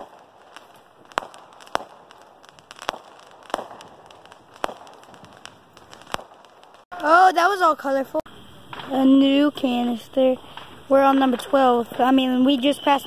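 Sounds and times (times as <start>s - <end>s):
fireworks bangs: 0.0s - 7.6s, 8.2s - 13.0s.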